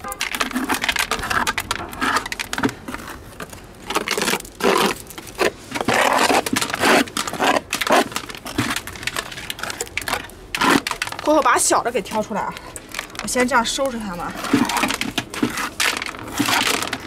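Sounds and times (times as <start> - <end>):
spatula scraping rock: 0.0 - 17.0.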